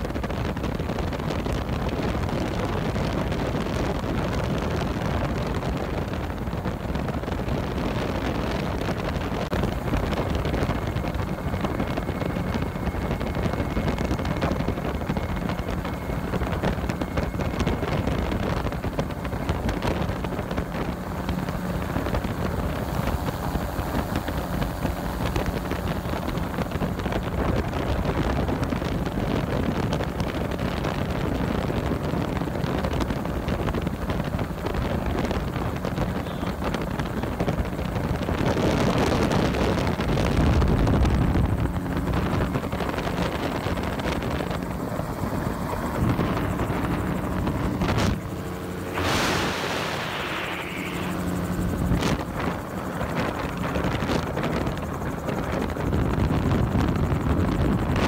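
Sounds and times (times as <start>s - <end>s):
aircraft engine and rotor drone: 0.0s - 58.0s
wind buffeting microphone: 0.0s - 58.0s.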